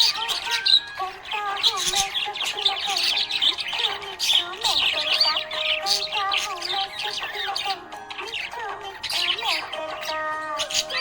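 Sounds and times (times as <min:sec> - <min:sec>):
budgerigars chirping and warbling: 0:00.0 - 0:11.0.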